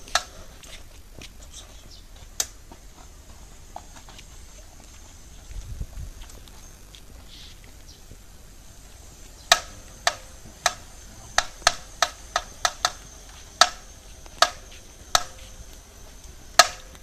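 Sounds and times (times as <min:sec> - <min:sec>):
rear wheel clicking pops: 0:00.0 - 0:01.3, 0:02.2 - 0:03.1, 0:03.8 - 0:17.0
faint steady high tone: 0:00.0 - 0:17.0.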